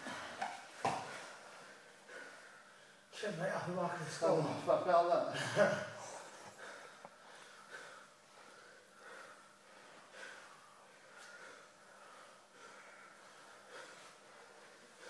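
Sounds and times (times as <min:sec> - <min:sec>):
heavy breathing: 0:00.0 - 0:03.1, 0:04.5 - 0:15.0.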